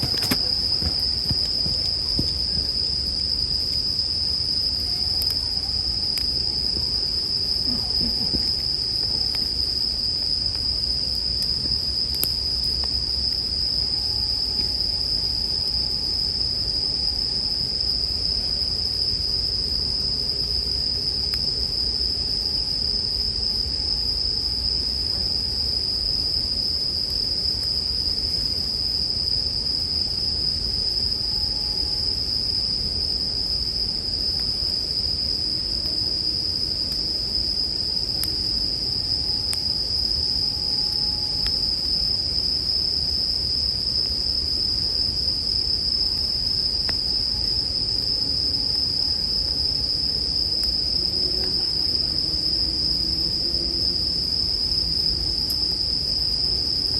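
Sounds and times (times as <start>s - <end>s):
bell crickets singing: 0.0s - 56.9s
faint campfire crackles: 0.0s - 56.9s.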